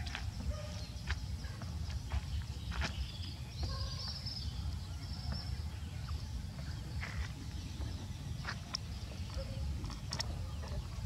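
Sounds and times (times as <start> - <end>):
faint high bird calls: 0.0 - 11.0.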